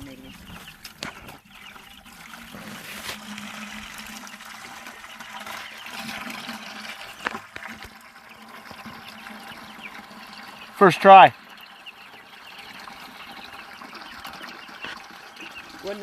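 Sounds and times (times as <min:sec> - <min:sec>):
water splashing from hose: 0:00.0 - 0:16.0.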